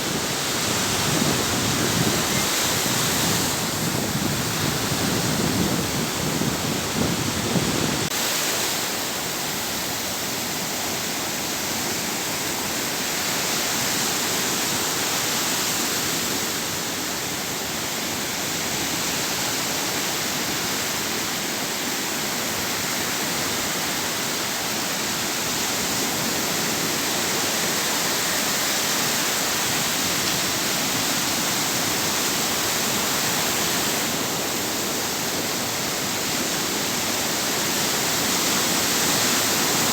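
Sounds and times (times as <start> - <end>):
surf rushing: 0.0 - 39.9.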